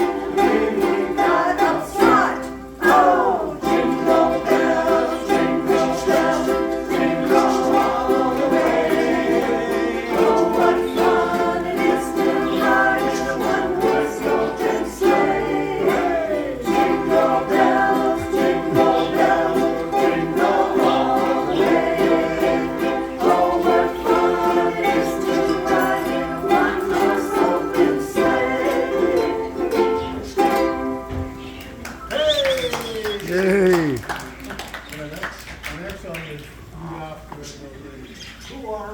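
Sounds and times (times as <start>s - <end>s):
voices singing along: 0.0s - 34.1s
ukuleles strumming: 0.0s - 34.7s.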